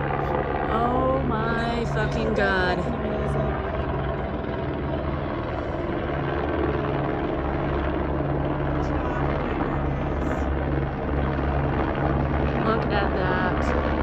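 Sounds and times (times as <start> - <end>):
helicopter rotor drone: 0.0 - 14.0.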